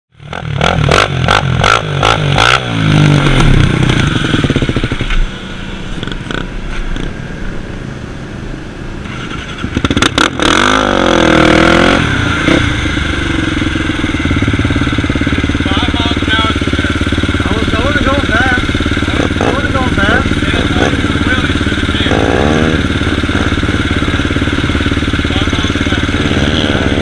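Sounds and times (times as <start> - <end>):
atv engine revving: 0.1 - 8.0, 8.8 - 27.0.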